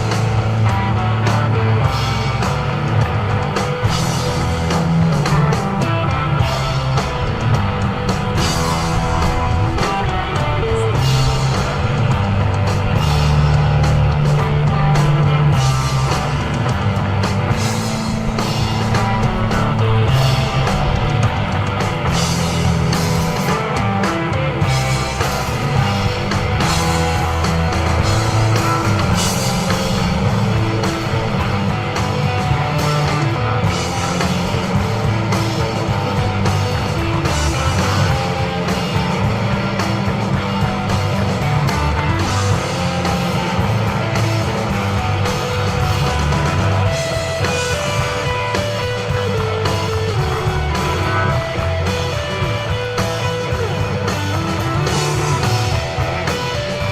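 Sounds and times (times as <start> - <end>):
bass guitar: 0.0 - 56.9
drums and cymbals: 0.0 - 56.9
electric guitar: 0.0 - 56.9.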